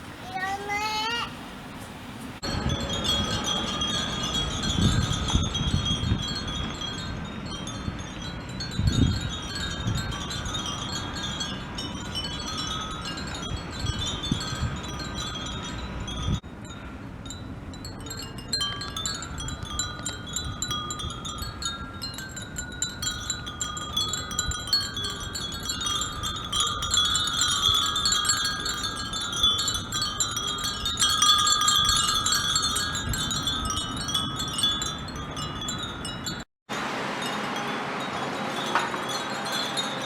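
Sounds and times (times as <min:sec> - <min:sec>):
low wind rumble: 0:01.3 - 0:36.4
wind bells tinkling: 0:02.4 - 0:36.5, 0:37.1 - 0:40.0.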